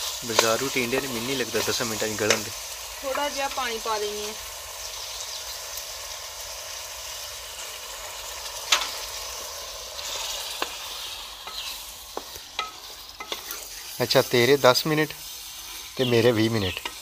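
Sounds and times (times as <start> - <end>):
vegetables frying in oil: 0.0 - 17.0.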